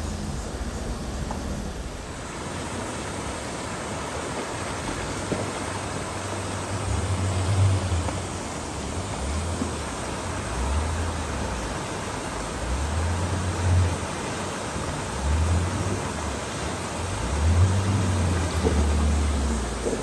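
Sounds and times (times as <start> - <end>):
low engine drone: 0.0 - 4.1, 4.7 - 20.0
road and wind noise: 0.0 - 20.0.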